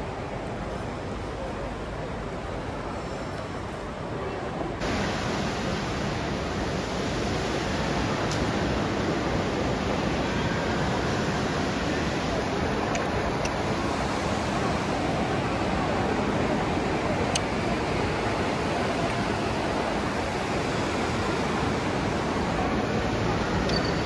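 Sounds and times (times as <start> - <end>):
rushing indoor mall ambience: 0.0 - 24.0.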